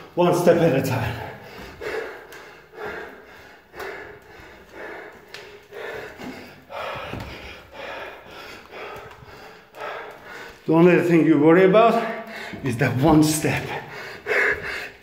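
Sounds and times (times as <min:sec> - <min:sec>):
man breathing hard: 0:00.0 - 0:10.8, 0:11.8 - 0:15.0
footsteps on stairs: 0:00.0 - 0:15.0.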